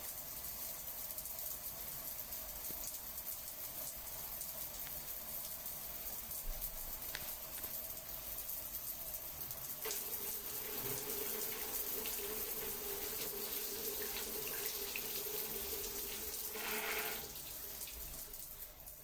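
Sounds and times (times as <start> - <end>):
thin stream of running water: 0.0 - 19.0.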